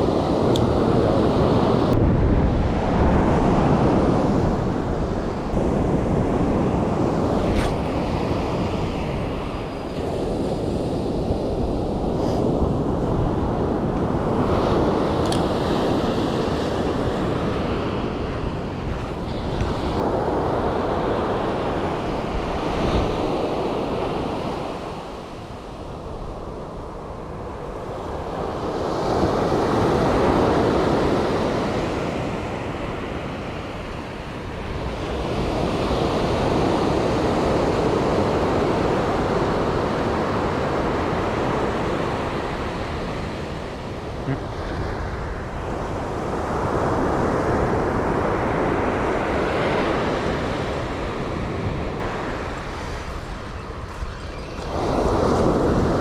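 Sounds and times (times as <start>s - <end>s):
sea waves breaking on shore: 0.0s - 56.0s
wind buffeting microphone: 0.0s - 56.0s.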